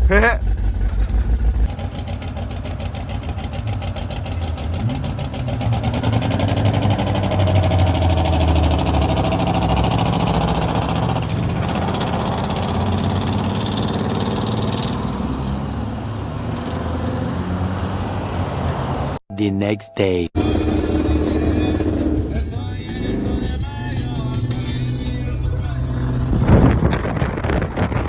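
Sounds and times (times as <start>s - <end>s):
car engine accelerating: 0.0s - 19.2s, 20.4s - 28.0s.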